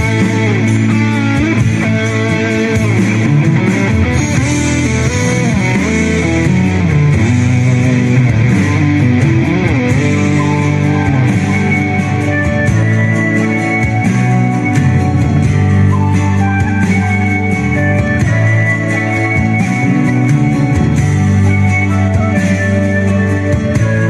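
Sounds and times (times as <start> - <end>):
bass line: 0.0 - 24.0
electric guitar bending notes: 0.0 - 24.0.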